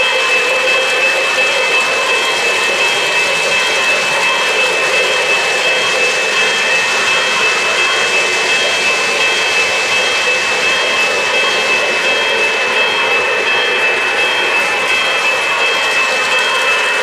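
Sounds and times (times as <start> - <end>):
model trains whirring on track: 0.0 - 17.0.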